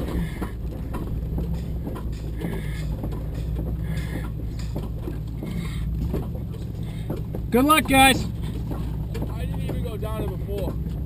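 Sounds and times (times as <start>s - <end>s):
body and suspension rattles: 0.0s - 11.0s
car engine low drone: 0.0s - 11.0s.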